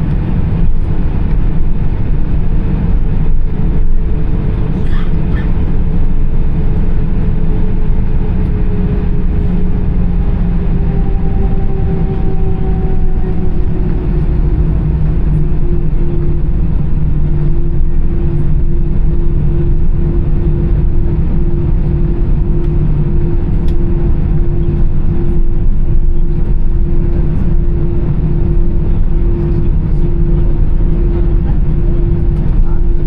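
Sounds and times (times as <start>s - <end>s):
jet engines idling rumble: 0.0s - 33.0s.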